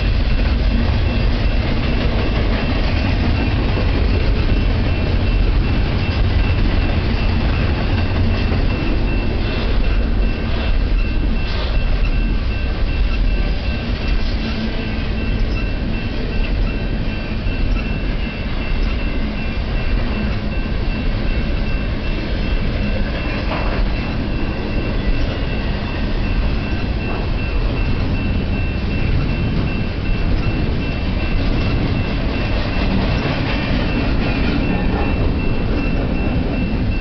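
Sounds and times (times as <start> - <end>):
thin steady high tone: 0.0 - 37.0
train wheels rumbling on track: 0.0 - 37.0.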